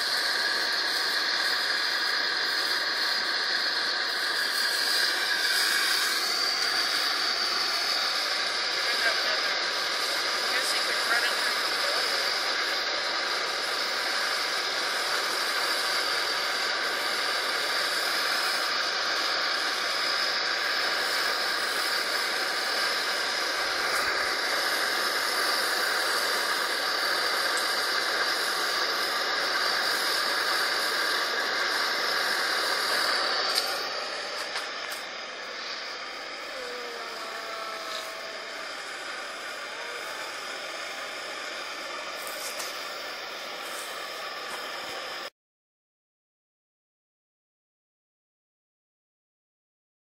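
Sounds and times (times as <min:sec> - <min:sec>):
gas stove hissing: 0:00.0 - 0:45.3.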